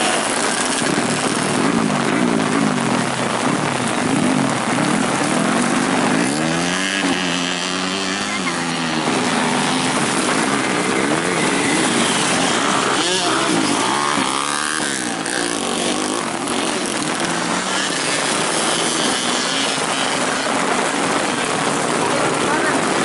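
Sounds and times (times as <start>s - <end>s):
motorcycles revving: 0.0s - 23.0s.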